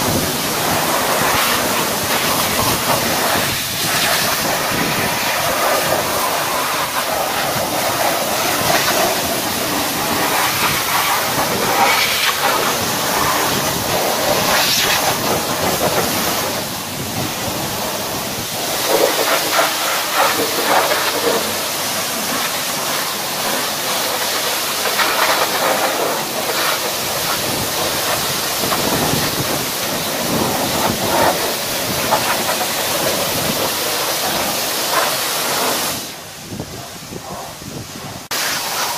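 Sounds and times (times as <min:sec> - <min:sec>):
high-pressure water spray hissing: 0:00.0 - 0:38.9.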